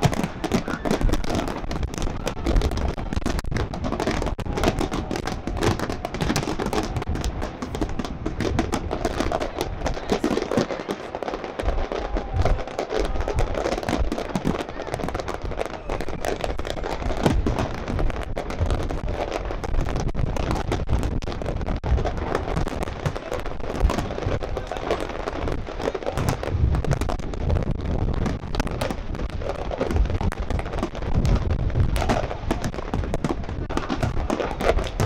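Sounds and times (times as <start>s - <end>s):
fireworks booming and crackling: 0.0s - 35.0s.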